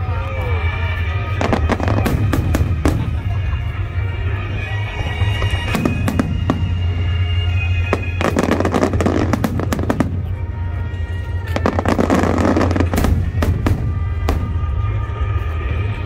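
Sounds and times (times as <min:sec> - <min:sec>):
fireworks bursting and crackling: 0:00.3 - 0:16.0.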